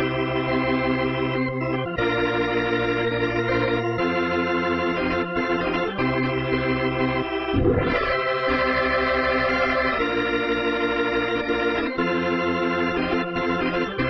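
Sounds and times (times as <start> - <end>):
organ playing hymn chords: 0.0 - 14.0.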